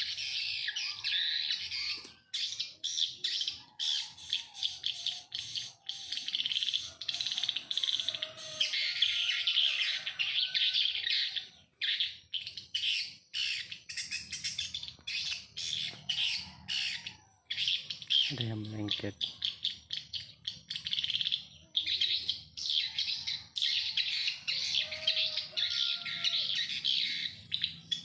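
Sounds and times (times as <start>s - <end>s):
birds chirping and chattering: 0.0s - 28.0s.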